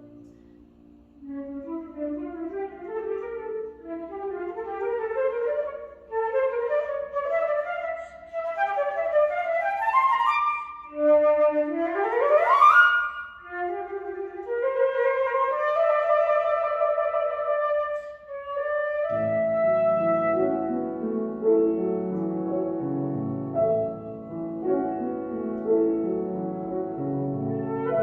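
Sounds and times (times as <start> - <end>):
piano accompaniment: 0.0 - 28.0
flute playing: 1.2 - 22.9, 23.5 - 28.0.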